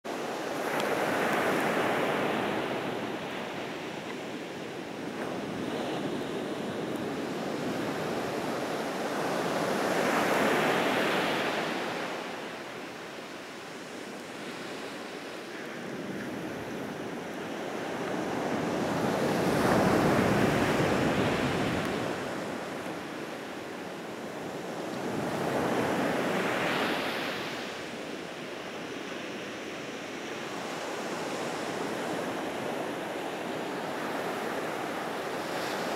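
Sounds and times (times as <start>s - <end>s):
surf breaking on a beach: 0.1s - 35.9s.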